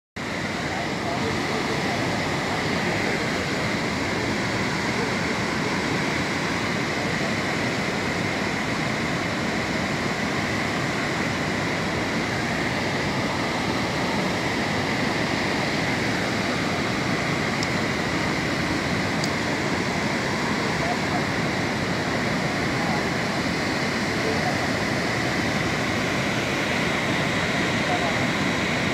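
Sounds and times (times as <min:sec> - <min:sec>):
waterfall rushing: 0:00.2 - 0:28.9.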